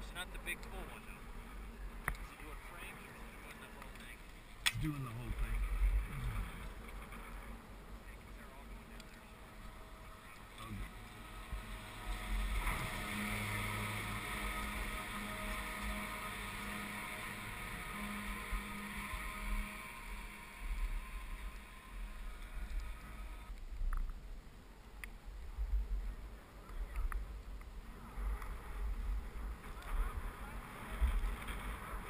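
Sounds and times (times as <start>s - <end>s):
skis sliding over snow: 0.0s - 23.5s, 27.9s - 32.0s
wind rumbling on microphone: 0.0s - 32.0s.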